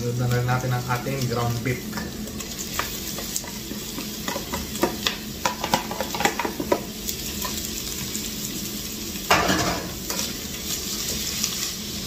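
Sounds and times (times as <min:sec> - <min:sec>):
meat and onions sizzling in oil: 0:00.0 - 0:12.0.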